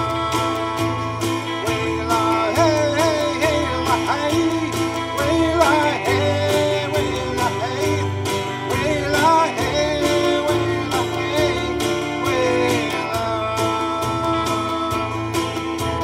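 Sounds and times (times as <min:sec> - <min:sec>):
acoustic guitar strumming: 0:00.0 - 0:16.0
bass: 0:00.0 - 0:16.0
drums keeping a steady beat: 0:00.0 - 0:16.0
man singing: 0:00.0 - 0:16.0.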